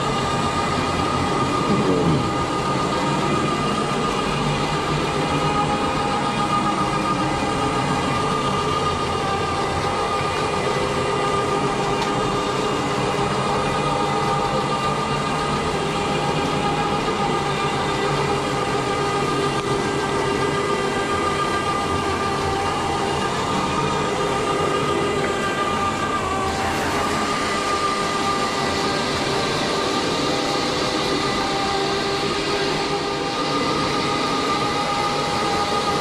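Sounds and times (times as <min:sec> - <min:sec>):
carpet cleaner roaring: 0:00.0 - 0:36.0
high whine: 0:00.0 - 0:36.0.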